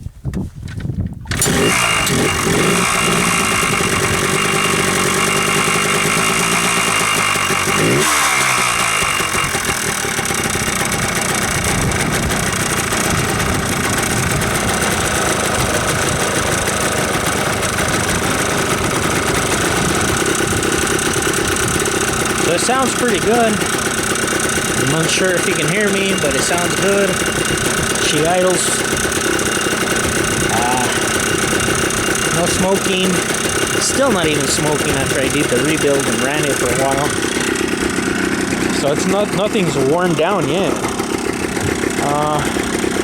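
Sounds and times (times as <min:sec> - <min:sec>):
two-stroke engine starting and idling: 0:01.3 - 0:43.0.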